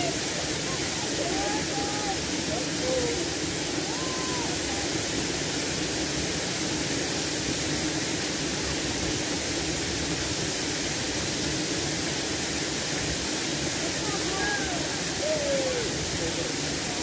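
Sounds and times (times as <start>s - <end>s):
waterfall pouring over rocks: 0.0s - 17.0s.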